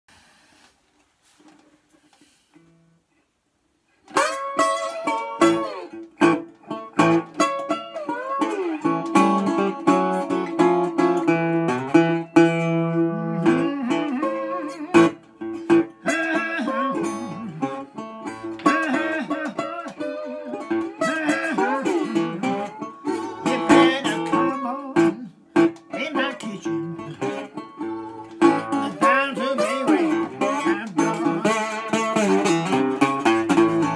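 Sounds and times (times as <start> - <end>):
slide guitar blues: 4.0 - 33.9.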